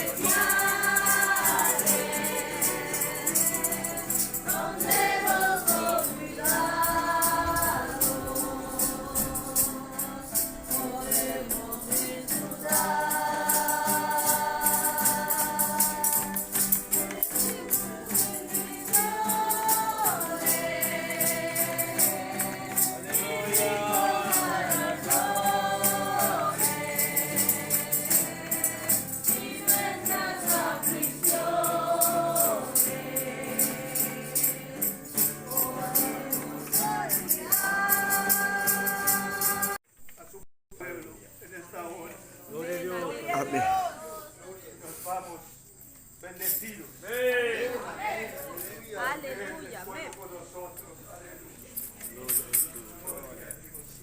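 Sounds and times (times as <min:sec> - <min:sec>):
congregation singing worship song: 0:00.0 - 0:39.8, 0:41.6 - 0:49.9
hand percussion shaken: 0:00.0 - 0:39.8, 0:46.3 - 0:47.0, 0:48.2 - 0:49.3, 0:50.7 - 0:54.0.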